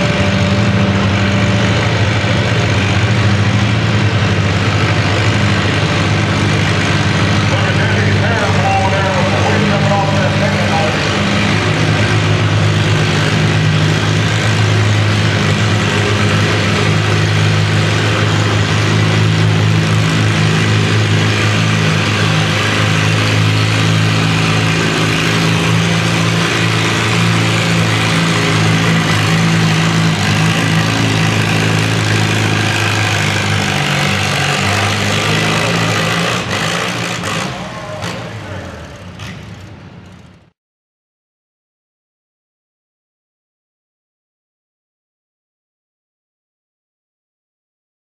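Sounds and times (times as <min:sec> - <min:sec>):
tractor engine running under load: 0:00.0 - 0:40.4.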